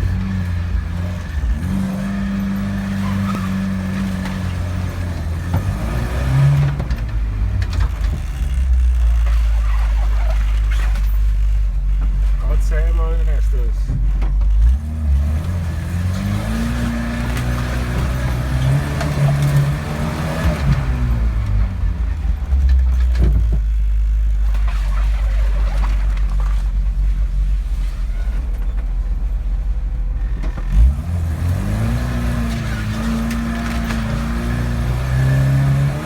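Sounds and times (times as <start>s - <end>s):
engine revving: 0.0s - 36.0s.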